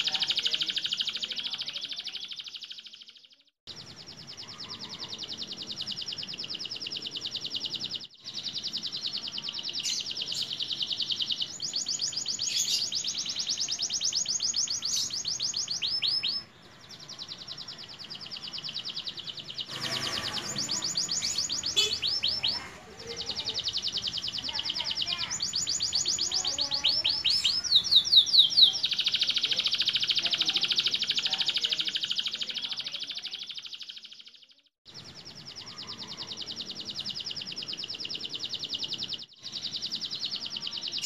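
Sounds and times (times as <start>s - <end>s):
canary singing trills: 0.0s - 41.0s.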